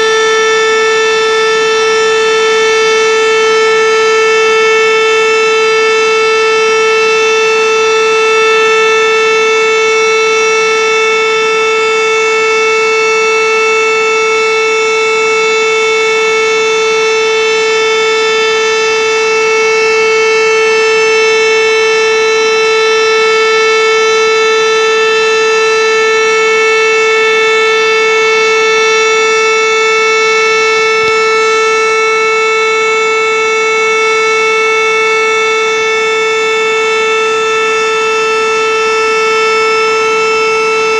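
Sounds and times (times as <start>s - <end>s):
fire siren steady tone: 0.0s - 40.9s.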